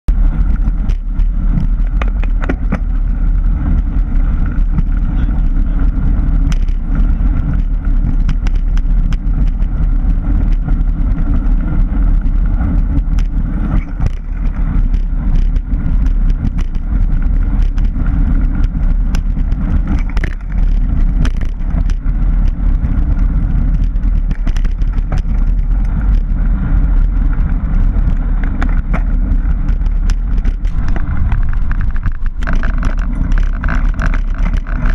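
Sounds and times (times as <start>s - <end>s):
wind and tyre rumble: 0.0s - 34.9s
bike clicks and rattles: 0.1s - 34.9s.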